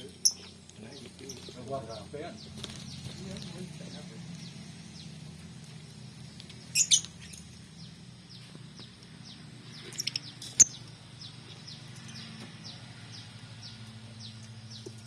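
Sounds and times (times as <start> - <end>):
loud sharp bird calls: 0.0 - 15.0.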